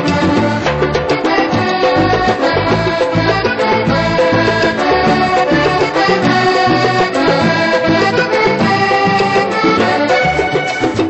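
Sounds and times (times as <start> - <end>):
accordion melody: 0.0 - 11.0
hand-struck drum rhythm: 0.0 - 11.0.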